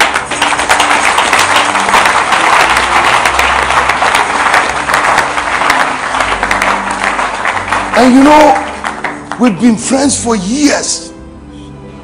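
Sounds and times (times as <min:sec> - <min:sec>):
congregation applauding: 0:00.0 - 0:10.2
soft music: 0:00.0 - 0:12.0.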